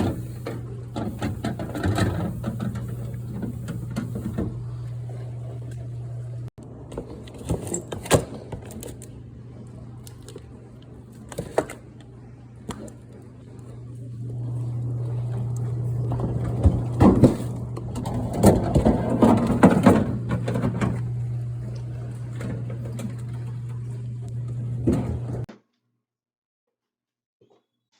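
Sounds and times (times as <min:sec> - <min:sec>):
steady low hum: 0:00.0 - 0:07.2, 0:09.1 - 0:25.5.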